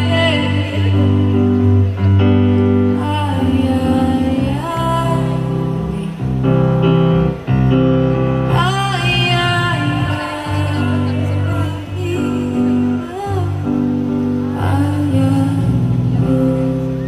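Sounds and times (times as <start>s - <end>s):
woman singing: 0.0s - 6.5s, 8.4s - 17.0s
band bass notes: 0.0s - 17.0s.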